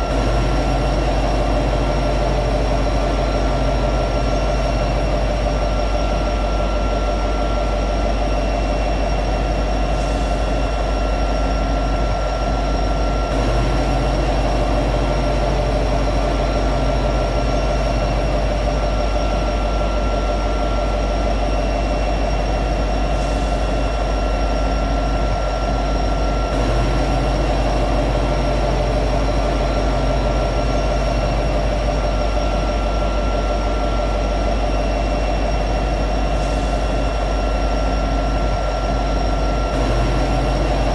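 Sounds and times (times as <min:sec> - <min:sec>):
diesel locomotive engine idling: 0:00.0 - 0:40.9.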